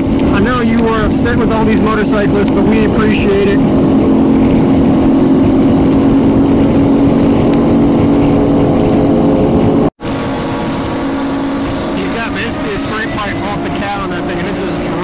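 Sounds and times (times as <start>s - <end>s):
motorcycle engine cruising: 0.0s - 15.0s
wind on microphone: 0.0s - 15.0s.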